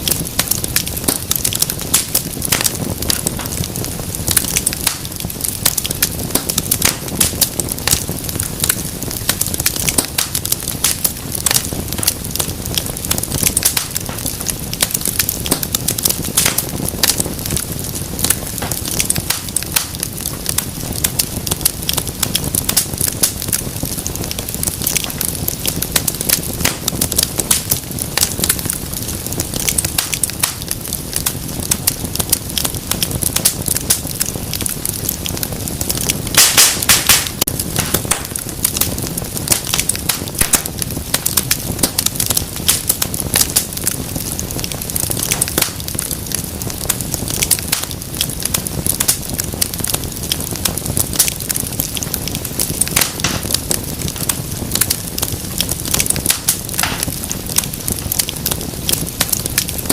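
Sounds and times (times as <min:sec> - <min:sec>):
low rush of flame: 0:00.0 - 0:59.9
wood fire crackling and popping: 0:00.0 - 0:59.9.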